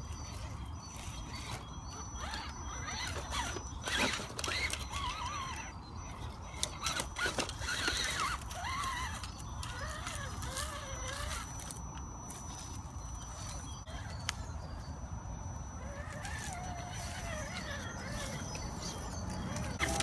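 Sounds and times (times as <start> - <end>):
toy car electric motor whining: 0.0 - 20.0.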